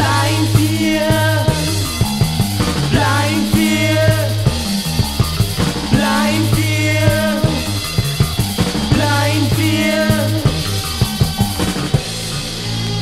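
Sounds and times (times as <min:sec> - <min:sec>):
drum kit steady beat: 0:00.0 - 0:13.0
sustained bass notes: 0:00.0 - 0:13.0.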